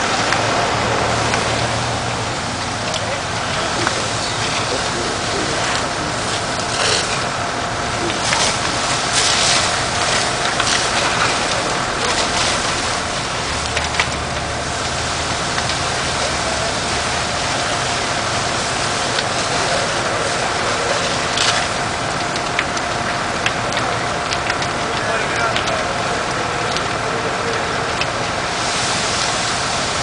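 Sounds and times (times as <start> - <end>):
burning structure cracking: 0.0 - 30.0
fire engine pump running: 0.0 - 30.0
hose streams rushing: 0.0 - 30.0
house fire burning: 0.0 - 30.0.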